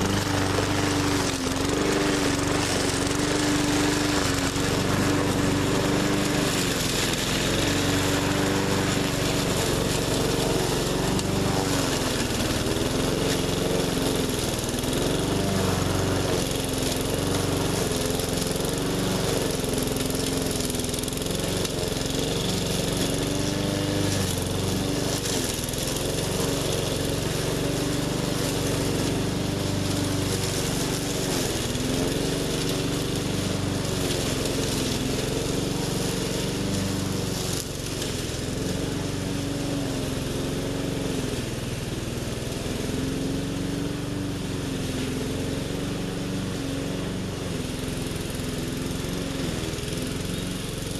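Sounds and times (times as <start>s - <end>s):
push mower engine bogging: 0.0s - 50.9s.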